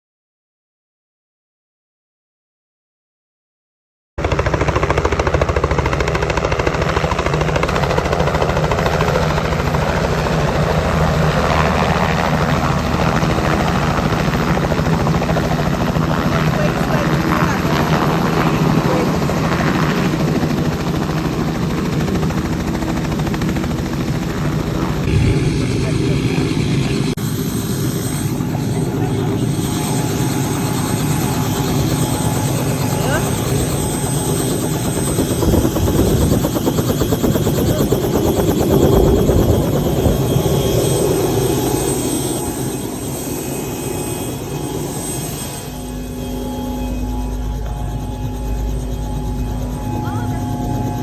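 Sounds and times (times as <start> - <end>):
helicopter engine and rotor drone: 4.2 - 51.0.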